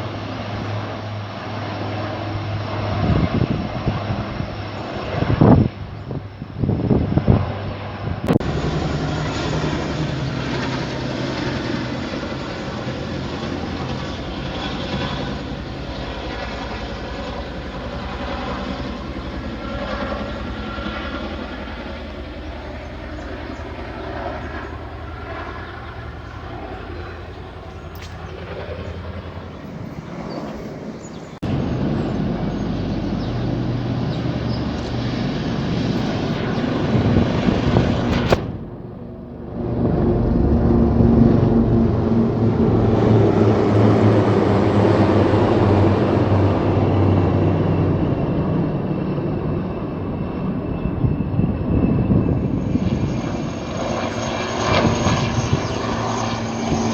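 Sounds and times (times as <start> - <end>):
helicopter engine and rotor: 0.0 - 56.9.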